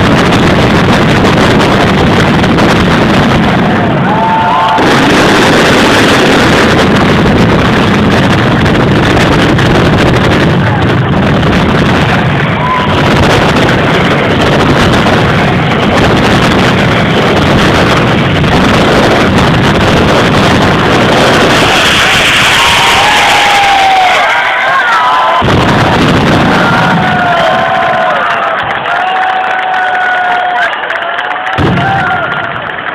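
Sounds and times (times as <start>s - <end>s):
firecrackers exploding: 0.0s - 32.9s.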